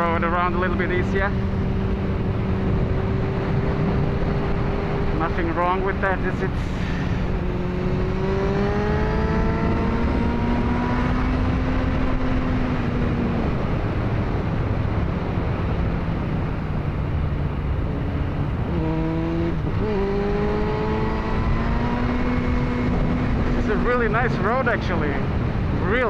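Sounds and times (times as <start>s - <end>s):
motorcycle engine revving: 0.0s - 26.0s
wind rush: 0.0s - 26.0s.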